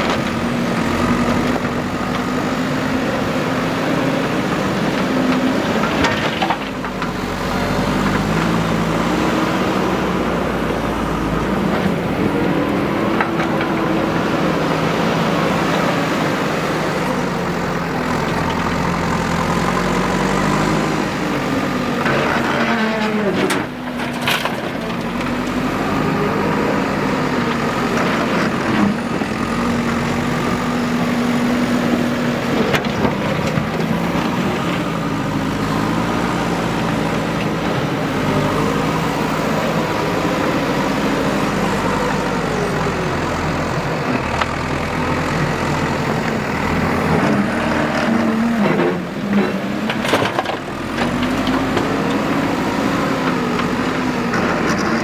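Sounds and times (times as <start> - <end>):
backhoe diesel engine revving: 0.0 - 55.0.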